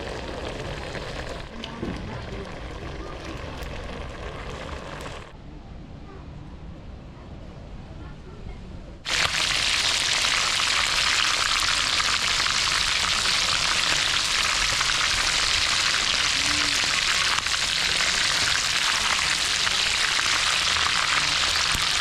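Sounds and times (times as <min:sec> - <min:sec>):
food frying in hot oil: 0:00.0 - 0:05.3, 0:09.1 - 0:22.0.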